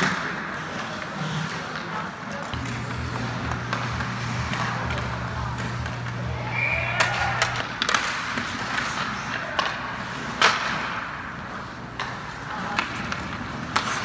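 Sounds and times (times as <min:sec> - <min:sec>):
hockey sticks and puck clacking: 0:00.0 - 0:14.0.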